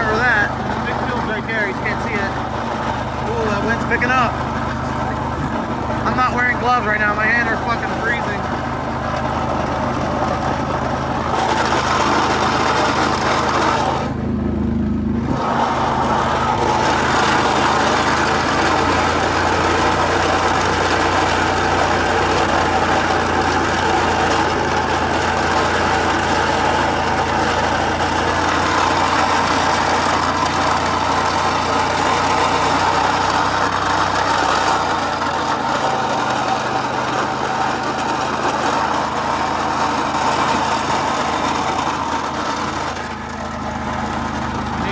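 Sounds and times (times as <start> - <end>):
quad bike engine running: 0.0 - 44.9.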